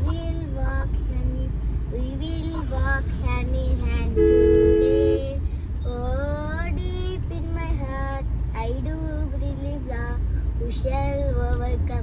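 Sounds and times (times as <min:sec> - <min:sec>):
girl singing unaccompanied: 0:00.0 - 0:12.0
low car cabin rumble: 0:00.0 - 0:12.0.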